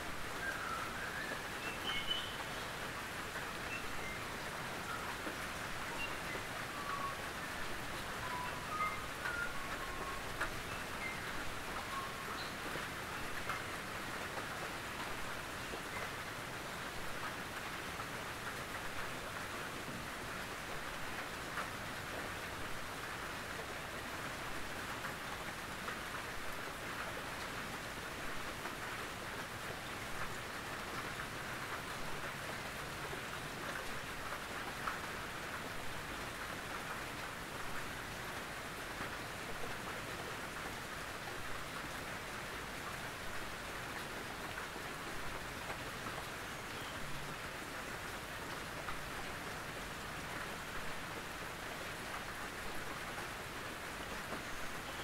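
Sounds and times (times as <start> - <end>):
rain on a tin roof: 0.0 - 55.0.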